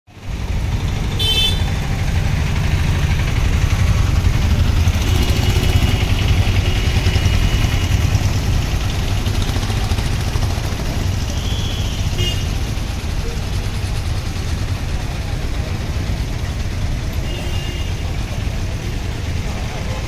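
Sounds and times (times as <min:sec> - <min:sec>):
vehicle engine rumble: 0:00.1 - 0:20.0.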